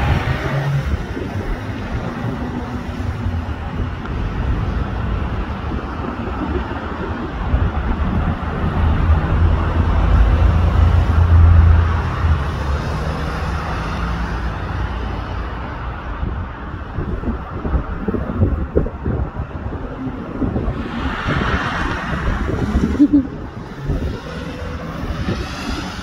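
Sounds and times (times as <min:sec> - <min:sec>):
steady road noise: 0:00.0 - 0:26.0
vehicle engine rumble: 0:00.0 - 0:26.0.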